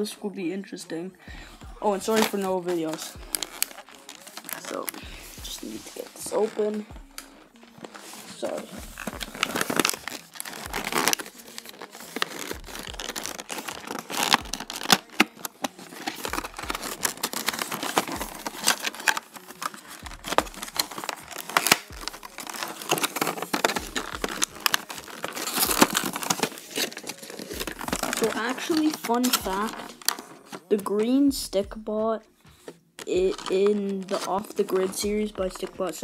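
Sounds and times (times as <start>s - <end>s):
packaging crinkling and tearing: 1.8s - 31.1s, 33.0s - 36.0s.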